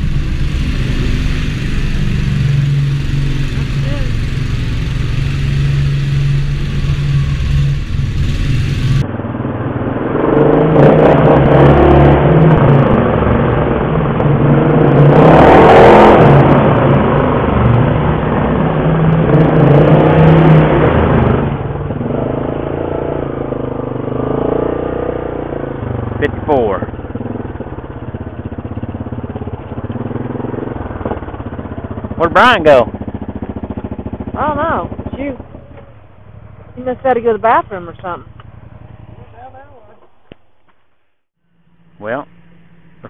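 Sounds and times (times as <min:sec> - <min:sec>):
atv engine echoing in tunnel: 0:00.0 - 0:40.0.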